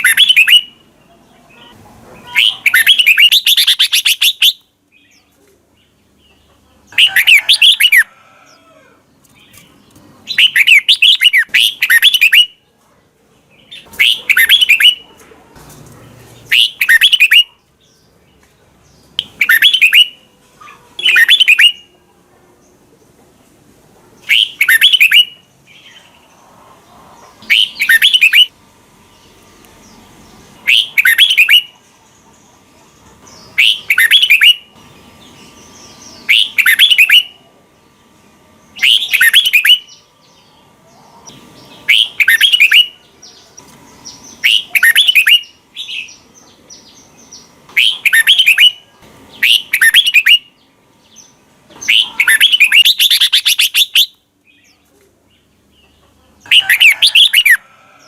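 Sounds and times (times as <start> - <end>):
bulbul singing warbled phrases: 0.0 - 8.1, 9.3 - 12.6, 13.4 - 15.2, 16.4 - 22.8, 24.2 - 26.3, 27.4 - 28.5, 29.1 - 32.7, 33.3 - 57.6.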